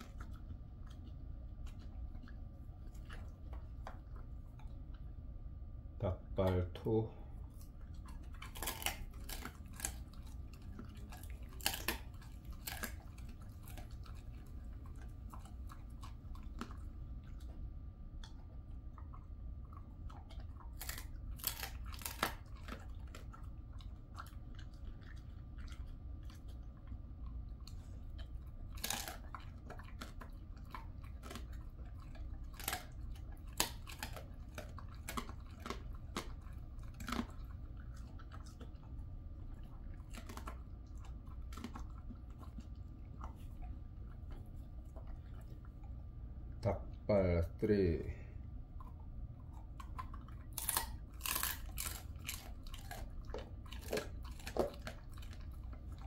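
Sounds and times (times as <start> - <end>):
dog crunching bone: 0.0 - 46.6, 47.7 - 56.0.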